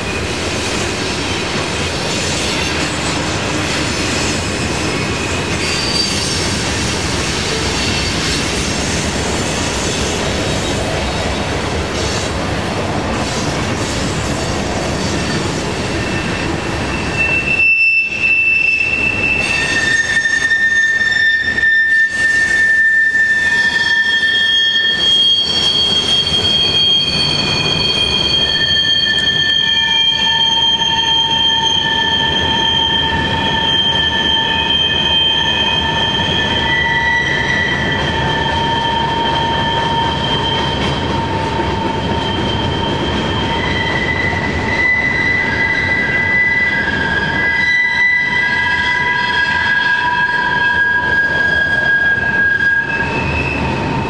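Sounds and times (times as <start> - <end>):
train wheels rumbling on rail: 0.0 - 54.0
wheels squealing against rails: 0.0 - 54.0.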